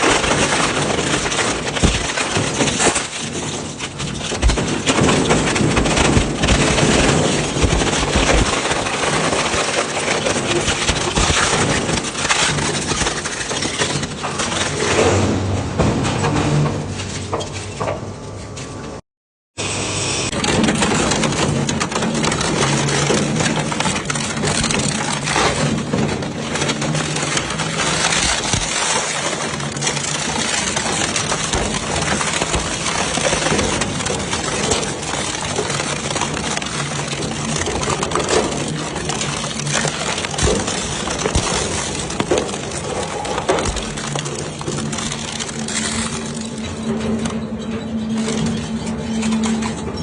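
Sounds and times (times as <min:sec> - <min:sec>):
metal crunching and clattering: 0:00.0 - 0:19.0, 0:20.3 - 0:50.0.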